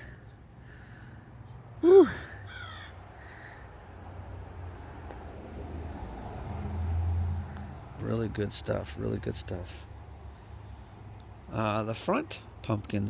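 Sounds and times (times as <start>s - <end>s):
faint high insect chirping: 0.0s - 13.0s.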